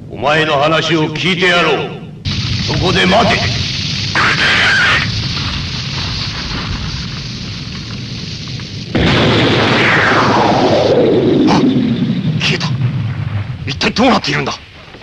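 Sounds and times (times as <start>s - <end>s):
explosion blasts: 2.2s - 14.8s.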